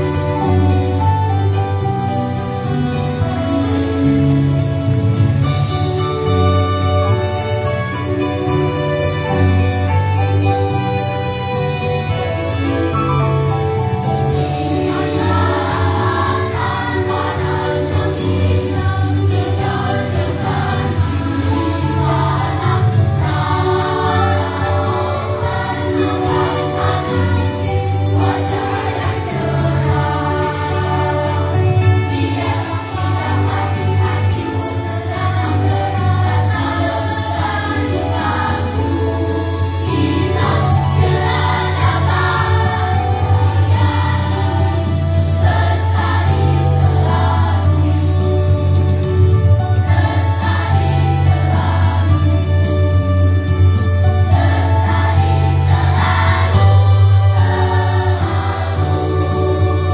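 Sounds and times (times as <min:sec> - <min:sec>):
children's choir singing: 0:05.0 - 0:59.9.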